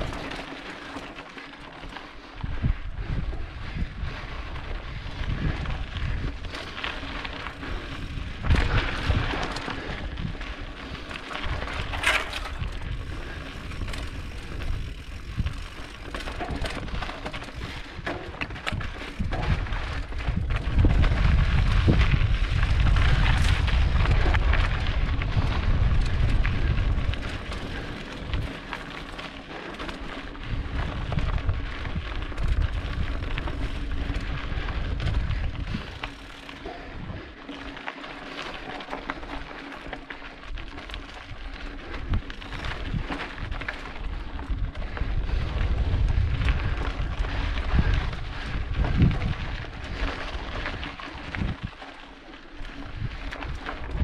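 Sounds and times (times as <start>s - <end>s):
bike knocking and rattling: 0.0s - 54.0s
bike tyres on rocky trail: 0.0s - 54.0s
wind rumbling on microphone: 0.0s - 54.0s.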